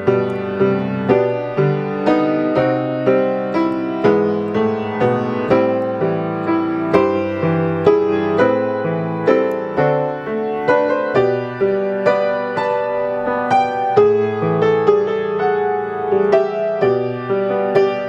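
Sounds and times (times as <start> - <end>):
grand piano melody: 0.0 - 18.0.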